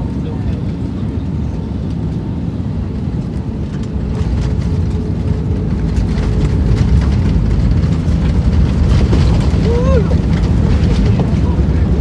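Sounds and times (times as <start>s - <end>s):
wheels rumbling on runway: 0.0s - 12.0s
rattling in aircraft cabin: 0.1s - 12.0s.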